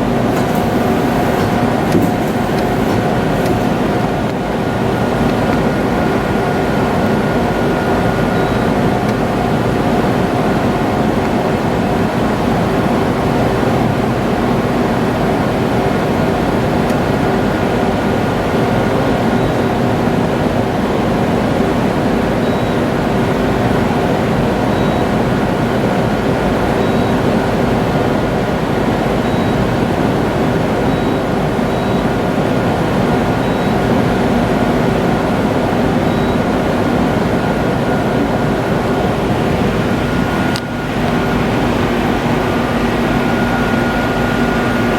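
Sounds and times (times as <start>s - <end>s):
lathe running with steady hum: 0.0s - 22.2s, 29.8s - 44.9s.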